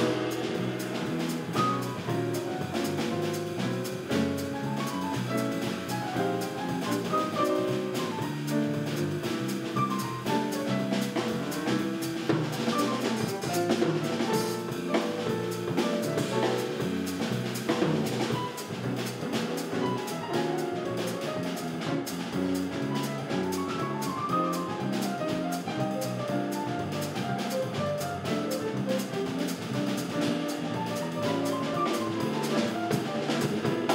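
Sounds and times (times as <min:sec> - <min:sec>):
drum kit: 0:00.0 - 0:33.9
grand piano: 0:00.0 - 0:33.9.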